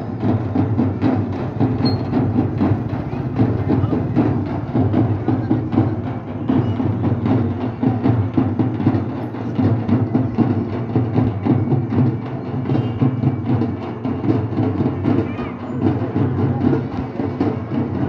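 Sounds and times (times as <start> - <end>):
drums beaten fast: 0.0 - 18.0.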